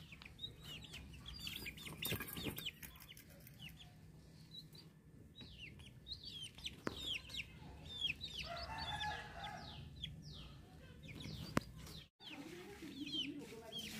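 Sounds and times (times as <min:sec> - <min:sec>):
chicks peeping: 0:00.0 - 0:13.9.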